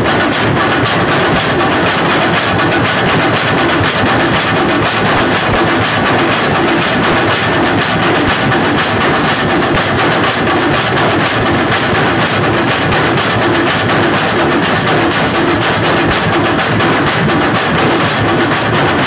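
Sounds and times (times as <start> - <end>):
group drumming fast rhythm: 0.0 - 19.0.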